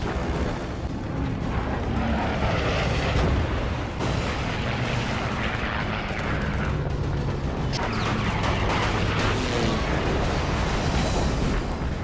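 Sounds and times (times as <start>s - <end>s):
warplane engine drone: 0.0s - 12.0s
anti-aircraft gunfire: 1.4s - 11.2s.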